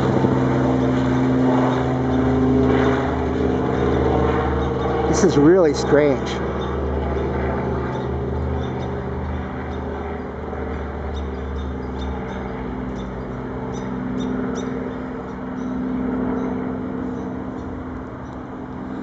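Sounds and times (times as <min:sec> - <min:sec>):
helicopter droning: 0:00.0 - 0:19.0.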